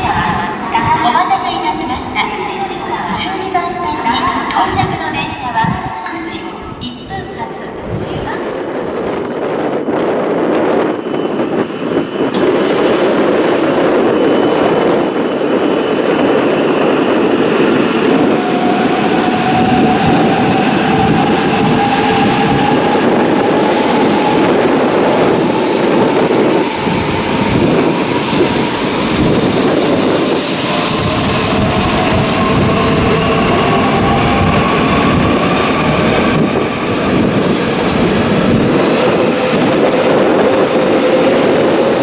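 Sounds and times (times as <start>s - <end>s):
faint train whine: 0.0s - 42.0s
train rushing past: 0.0s - 42.0s.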